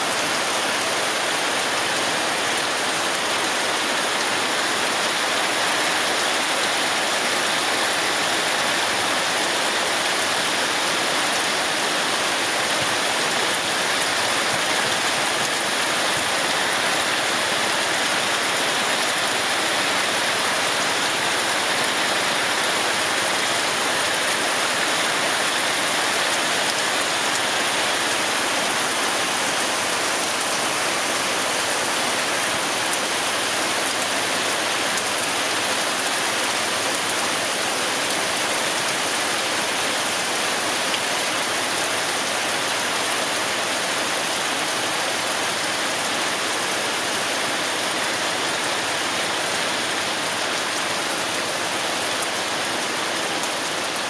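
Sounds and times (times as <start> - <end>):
heavy rain on vegetation: 0.0 - 54.0.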